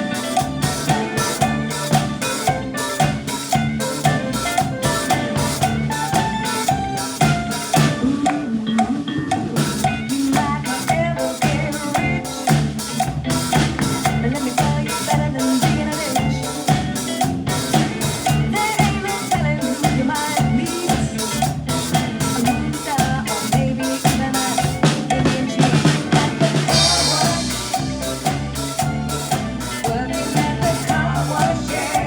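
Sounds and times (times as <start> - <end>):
backing track with bass line: 0.0 - 32.0
drum kit playing steady beat: 0.0 - 32.0.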